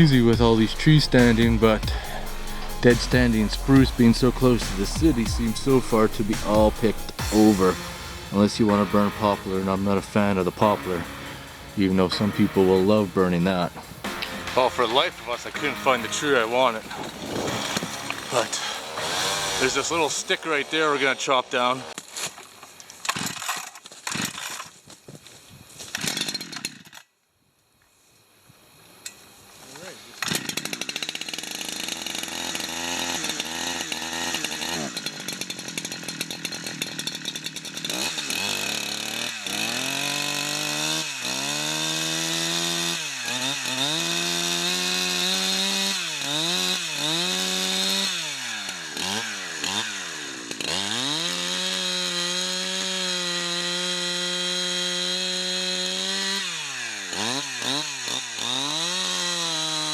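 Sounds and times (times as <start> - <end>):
chainsaw revving: 0.0 - 24.7, 25.9 - 27.0, 28.8 - 59.9.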